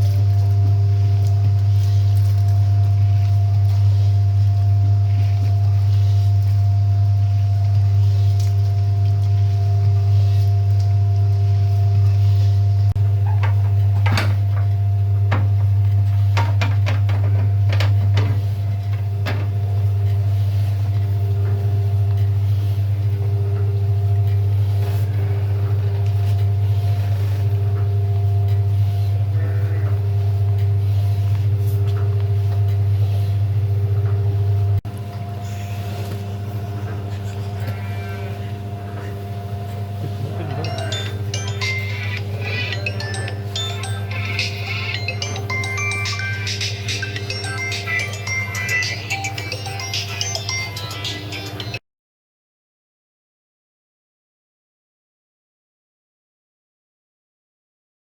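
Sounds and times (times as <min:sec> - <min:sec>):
motor humming: 0:00.0 - 0:51.8.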